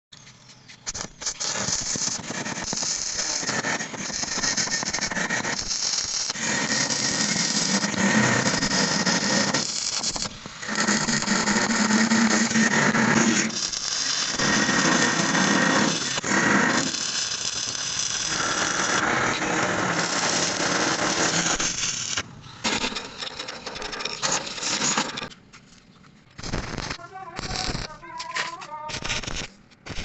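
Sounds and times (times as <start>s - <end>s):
welding arc crackling: 0.8s - 25.3s, 26.4s - 30.0s.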